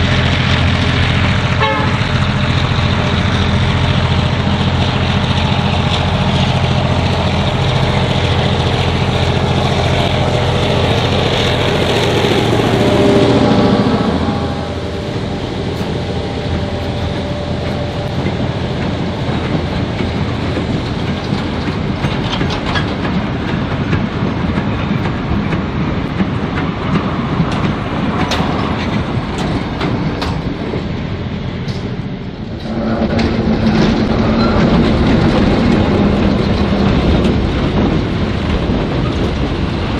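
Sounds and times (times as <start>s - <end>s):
wheels clicking over rail joints: 0.0s - 13.2s, 14.8s - 39.9s
diesel locomotive engine drone: 0.0s - 39.9s
train cars rumbling past: 0.0s - 39.9s.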